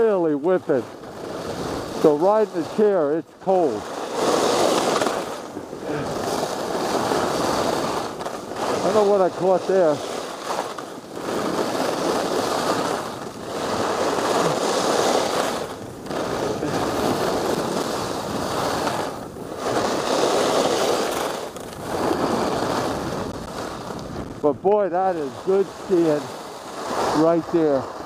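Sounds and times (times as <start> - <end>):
skis scraping on snow: 0.0 - 28.0.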